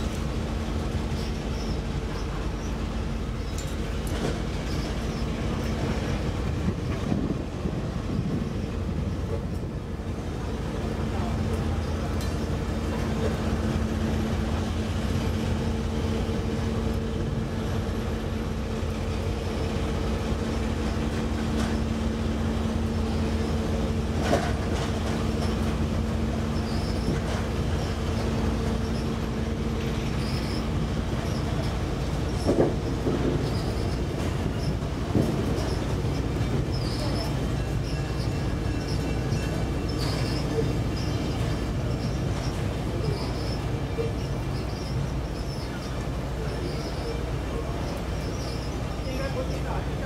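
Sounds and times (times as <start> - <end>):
train wheels rolling on rails: 0.0 - 50.0.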